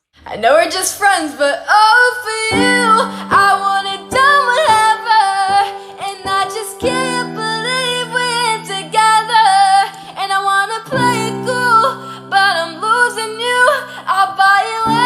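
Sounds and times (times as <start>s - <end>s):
woman singing: 0.2s - 15.0s.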